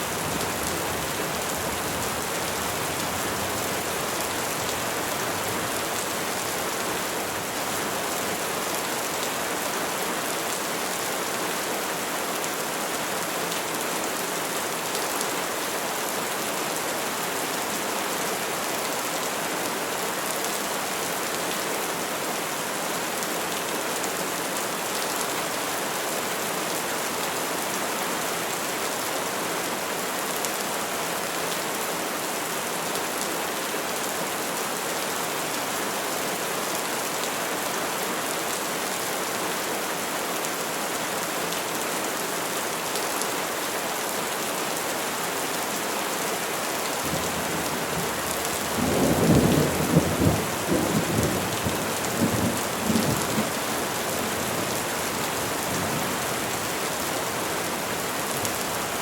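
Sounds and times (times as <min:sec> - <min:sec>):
rain falling on trees: 0:00.0 - 0:59.0.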